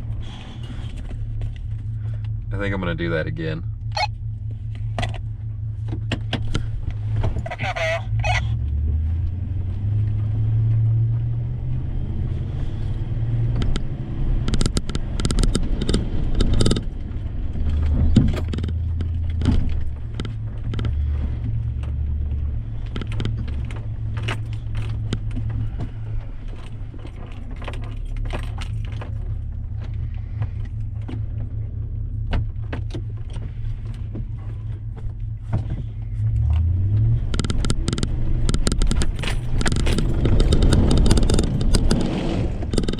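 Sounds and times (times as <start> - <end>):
truck engine running: 0.0 - 42.9
vehicle rattles and knocks: 0.0 - 42.9.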